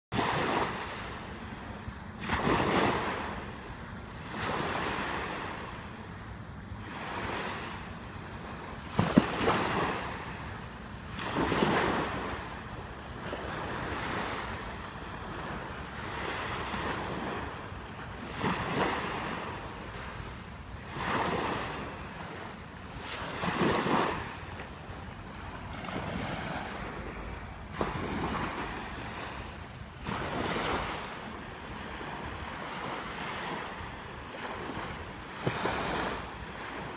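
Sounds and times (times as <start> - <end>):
waves breaking on beach: 0.1 - 36.9.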